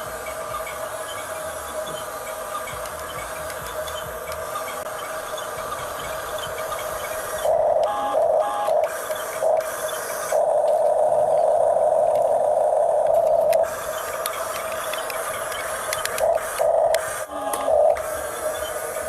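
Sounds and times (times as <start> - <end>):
toy bulldozer motors whining: 0.0 - 19.0.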